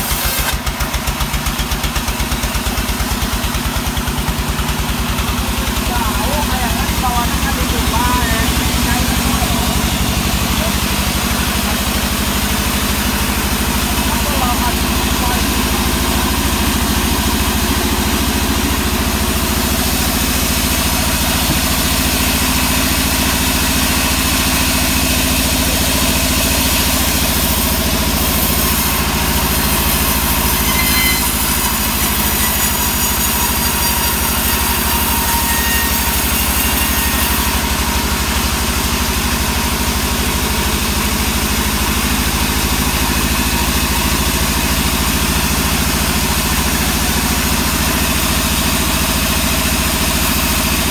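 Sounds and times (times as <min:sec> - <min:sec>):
band sawmill droning: 0:00.0 - 0:50.9.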